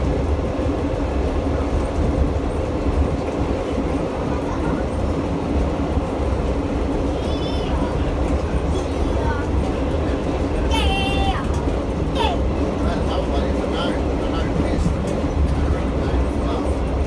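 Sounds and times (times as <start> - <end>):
railcar engine drone: 0.0 - 17.0
wheels rumbling on rails: 0.0 - 17.0.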